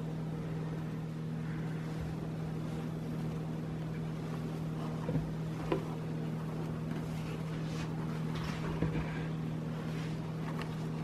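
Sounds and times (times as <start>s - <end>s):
low hum with faint tones: 0.0s - 11.0s.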